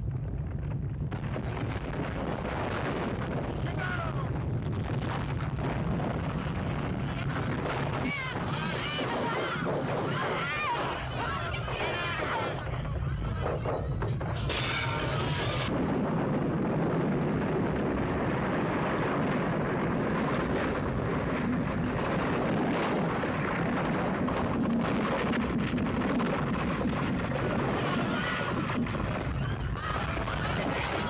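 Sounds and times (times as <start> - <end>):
heavy earthquake rumble: 0.0 - 31.0.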